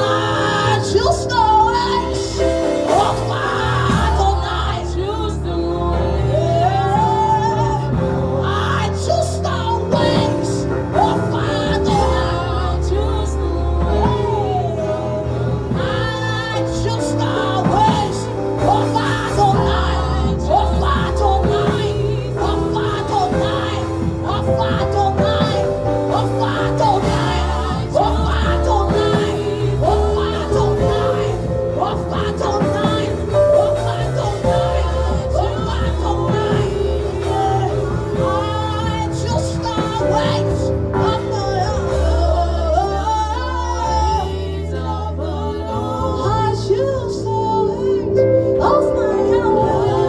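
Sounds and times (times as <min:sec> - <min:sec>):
worship music with singing: 0:00.0 - 0:50.0.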